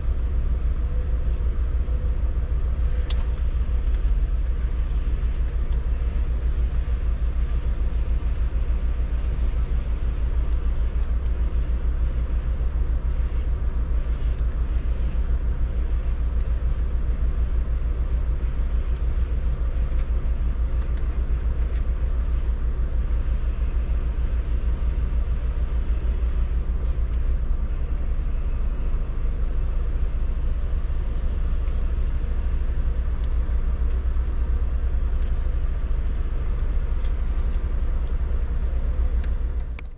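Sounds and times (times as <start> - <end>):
car low rumble: 0.0 - 39.9.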